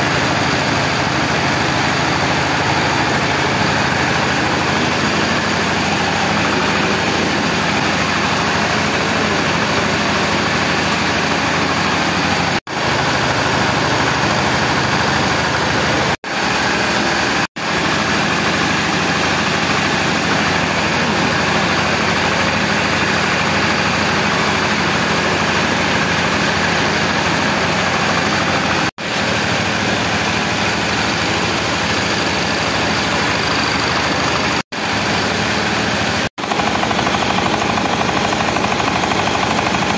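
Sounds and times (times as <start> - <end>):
milling machinery noise: 0.0 - 39.9.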